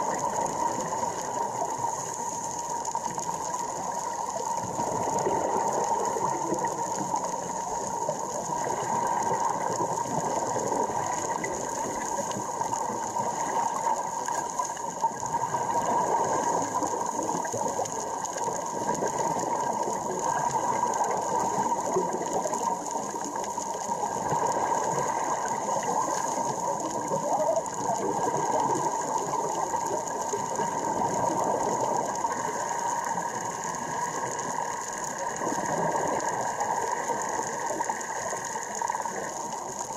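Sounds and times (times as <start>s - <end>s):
dense underwater crackling: 0.0s - 39.9s.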